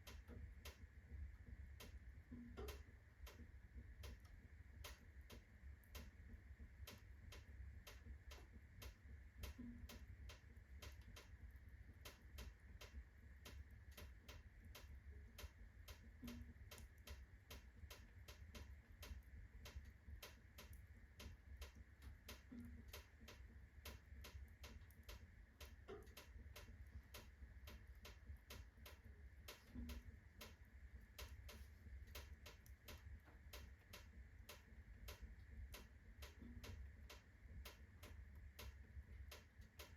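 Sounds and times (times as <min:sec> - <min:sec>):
low steady fire rumble: 0:00.0 - 0:39.9
wood fire crackling: 0:00.0 - 0:39.9.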